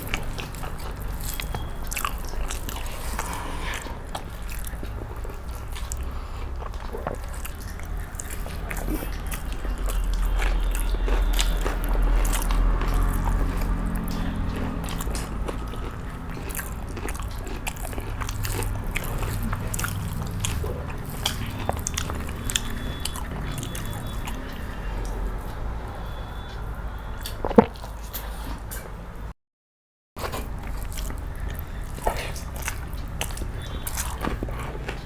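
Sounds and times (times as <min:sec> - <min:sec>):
mouth clicks and crunches: 0:00.0 - 0:25.6, 0:27.2 - 0:28.9, 0:30.2 - 0:35.0
person chewing food: 0:00.0 - 0:29.0, 0:30.2 - 0:35.0.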